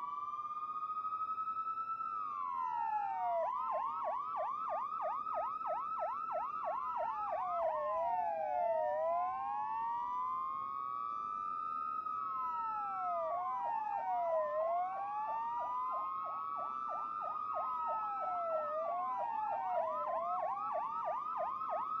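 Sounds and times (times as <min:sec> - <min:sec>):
police sirens yelping and wailing: 0:00.0 - 0:22.0.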